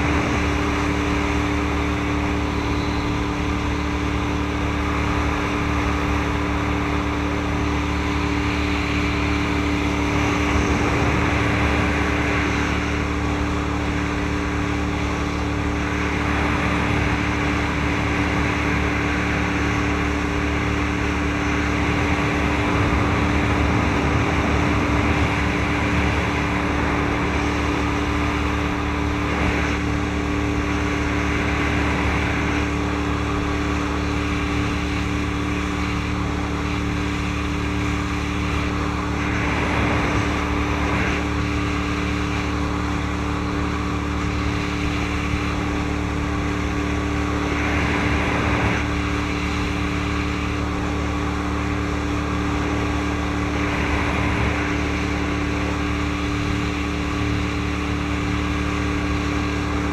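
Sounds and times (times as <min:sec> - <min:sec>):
boat engine droning: 0:00.0 - 0:59.9
water rushing: 0:00.0 - 0:59.9.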